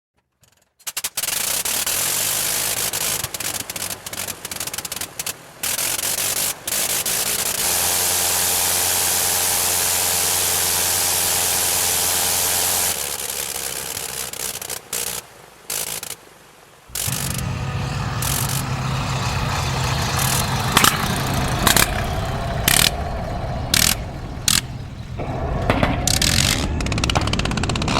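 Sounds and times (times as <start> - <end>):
rotary aero engine running: 2.0 - 14.9, 16.9 - 27.9.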